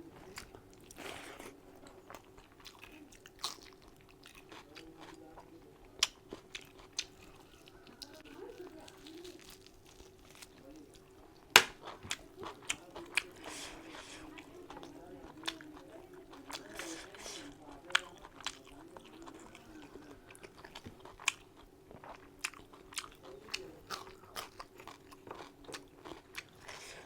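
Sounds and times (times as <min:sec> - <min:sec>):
chewing and crunching: 0:00.1 - 0:27.0.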